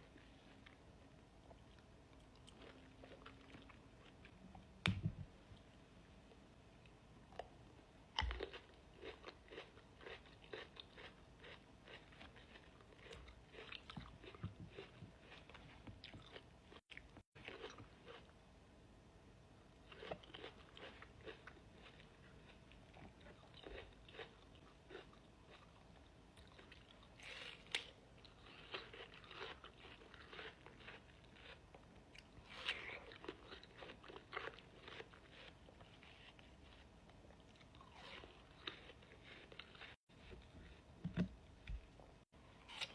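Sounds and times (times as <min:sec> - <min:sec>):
fruit being bitten and chewed: 0:06.8 - 0:18.3, 0:19.8 - 0:42.9.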